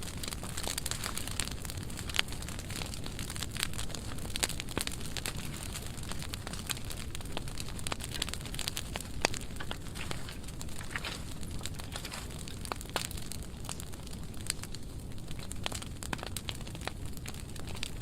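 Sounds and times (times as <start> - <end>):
low rumble of flame: 0.0 - 18.0
wood fire crackling and popping: 0.0 - 18.0.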